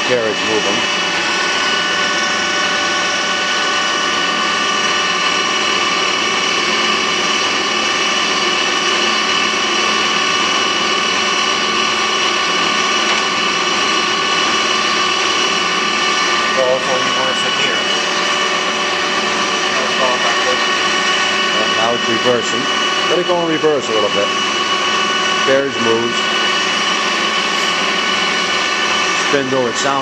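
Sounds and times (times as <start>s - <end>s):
lathe gears whining: 0.0s - 30.0s.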